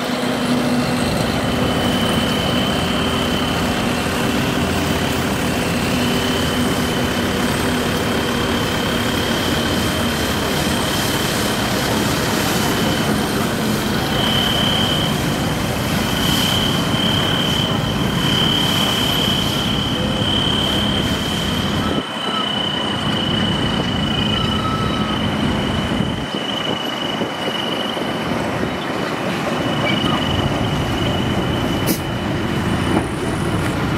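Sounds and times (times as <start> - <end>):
high steady whine: 0.0 - 33.9
sweeper brush scrubbing road: 0.0 - 33.9
tractor engine running: 0.0 - 33.9.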